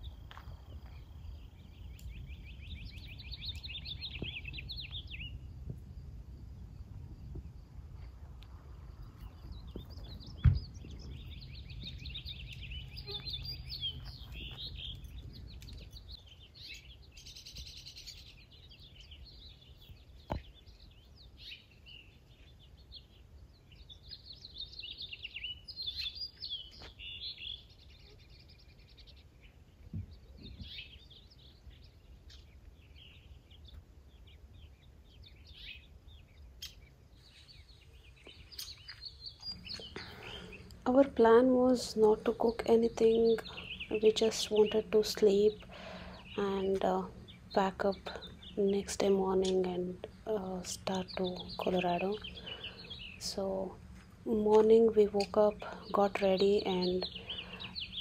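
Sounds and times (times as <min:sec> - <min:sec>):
birds chirping and singing: 0:00.0 - 0:05.6, 0:08.8 - 0:58.0.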